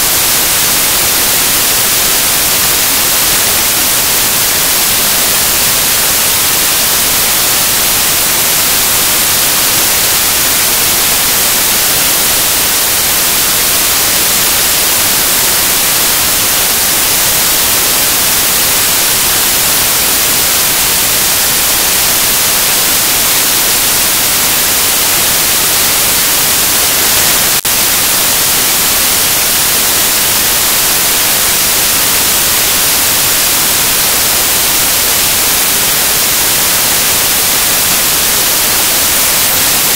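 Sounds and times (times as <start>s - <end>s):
electronic static hiss: 0.0s - 39.9s.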